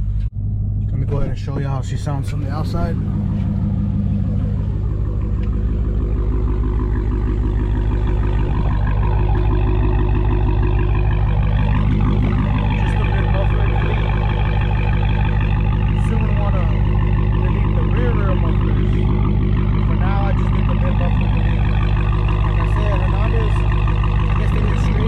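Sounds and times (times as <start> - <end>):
car engine idling deep rumble: 0.0 - 25.0.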